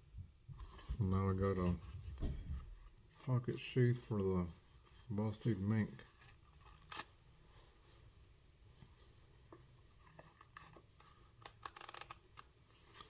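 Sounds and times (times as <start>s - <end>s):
faint clicks and rustles: 0.1s - 13.0s.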